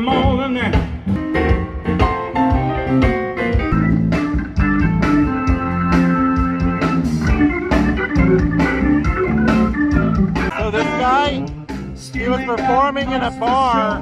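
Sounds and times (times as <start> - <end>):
drum beat: 0.0 - 14.0
guitar: 0.0 - 14.0
organ chords: 0.0 - 14.0.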